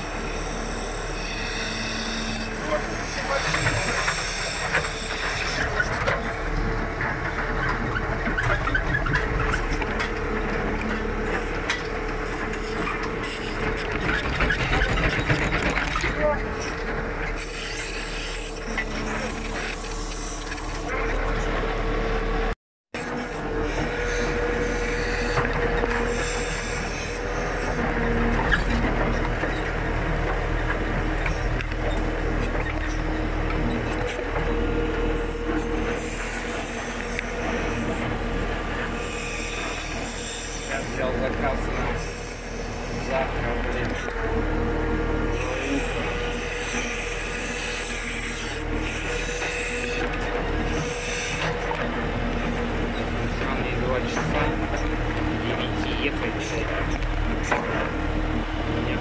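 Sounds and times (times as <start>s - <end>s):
diesel engine running: 0.0s - 59.0s
hydraulics working backhoe: 0.0s - 59.0s.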